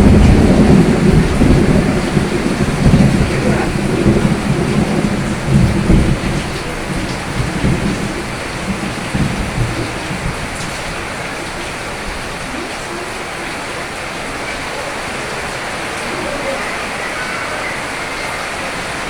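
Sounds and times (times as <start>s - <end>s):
steady rain: 0.0s - 19.0s
thunder rumble: 0.0s - 19.0s.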